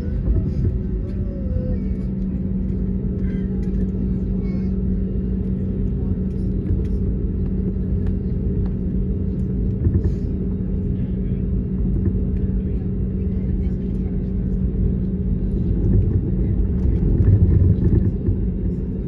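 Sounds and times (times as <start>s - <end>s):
aircraft engines rumbling: 0.0s - 19.0s
cabin air hum: 0.0s - 19.0s.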